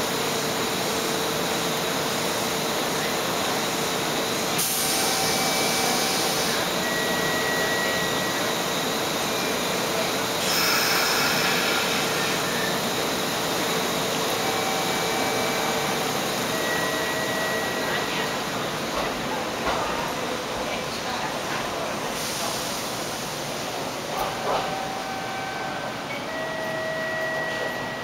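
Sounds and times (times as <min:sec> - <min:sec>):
hiss and hum of stopped trains: 0:00.0 - 0:28.0.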